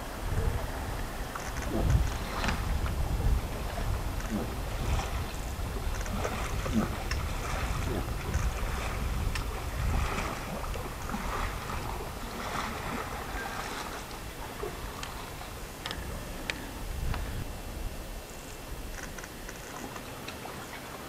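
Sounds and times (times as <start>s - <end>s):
wind on microphone: 0.0s - 19.8s
water sloshing and splashing: 0.0s - 21.0s.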